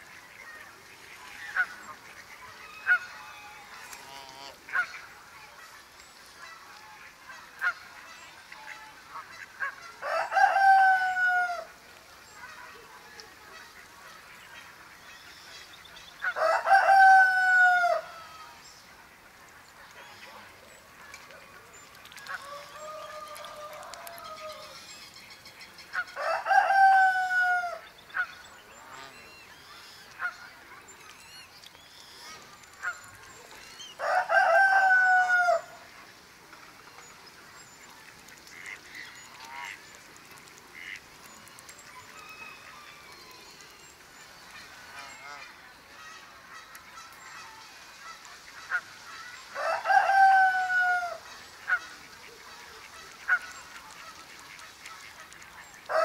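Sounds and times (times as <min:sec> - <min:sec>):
drawn-out bird calls: 0:00.0 - 0:56.0.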